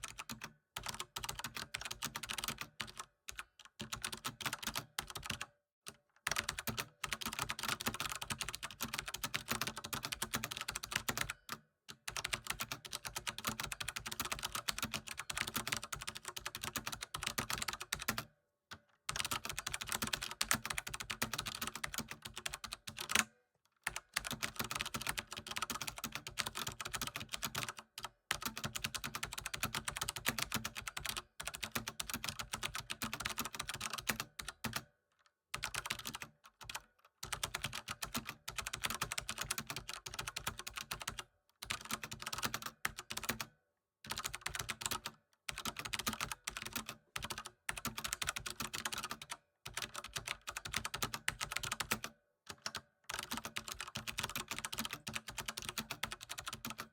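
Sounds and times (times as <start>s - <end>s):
computer keyboard typing: 0.0s - 5.5s, 6.2s - 18.3s, 19.1s - 34.9s, 35.6s - 43.5s, 44.1s - 56.9s.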